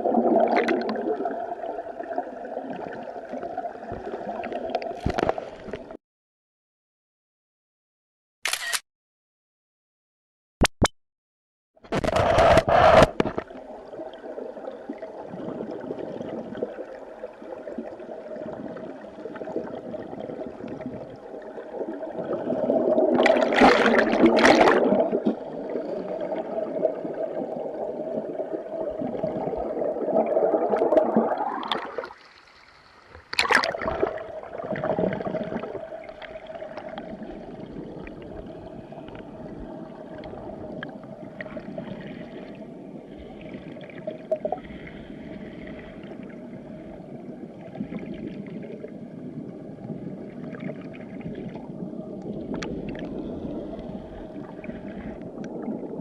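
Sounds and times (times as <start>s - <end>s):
muffled underwater river rushing: 0.0s - 6.0s, 11.9s - 56.0s.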